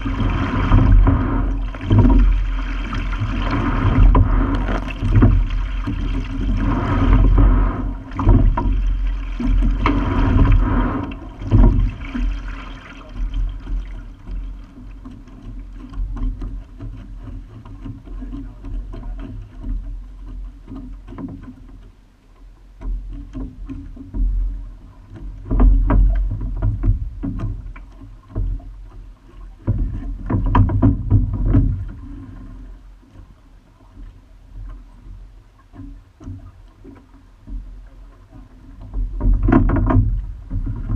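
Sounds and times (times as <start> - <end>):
water washing along a hull: 0.0 - 40.9.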